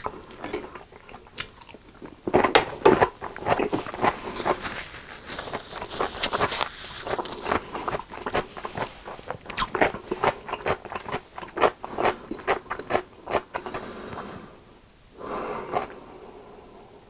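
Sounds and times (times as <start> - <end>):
person chewing wetly: 0.0 - 13.9, 15.7 - 16.0
soft noise: 1.9 - 17.0.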